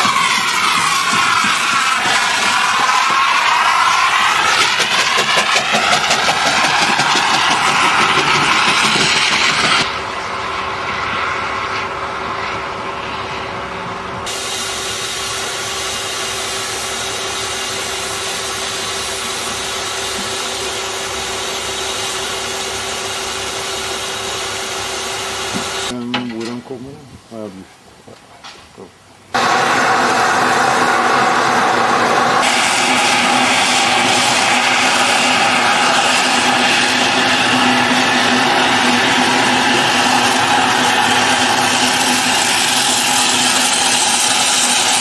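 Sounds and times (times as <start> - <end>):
steam train hiss and exhaust: 0.0 - 26.0, 29.3 - 45.0
train carriages rolling on rails: 0.0 - 26.6, 29.4 - 45.0.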